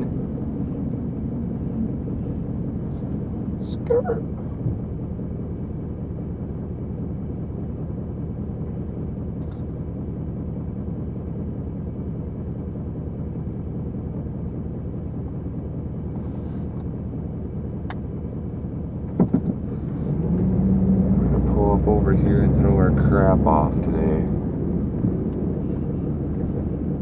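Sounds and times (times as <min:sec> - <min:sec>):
engine low rumble: 0:00.0 - 0:27.0.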